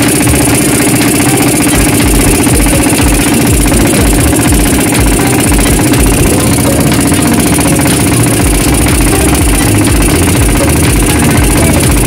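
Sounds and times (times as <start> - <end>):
boat engine knocking: 0.0 - 12.0.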